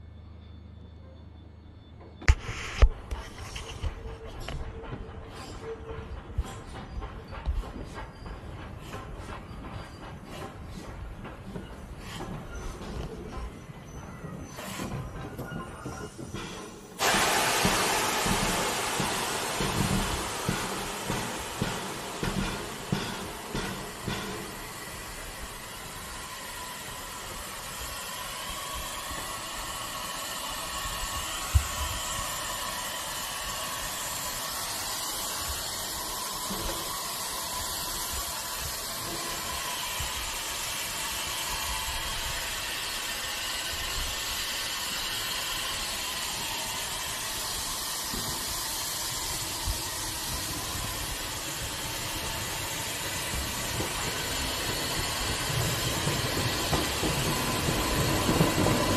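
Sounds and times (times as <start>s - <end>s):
low rumble of approaching train: 0.0s - 58.9s
steam hissing: 5.1s - 58.9s.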